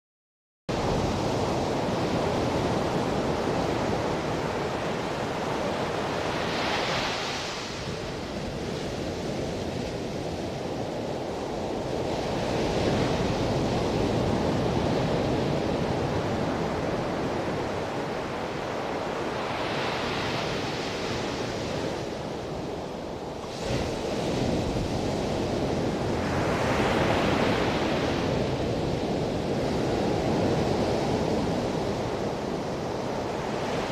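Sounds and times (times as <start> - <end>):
ocean waves breaking: 0.7 - 33.9.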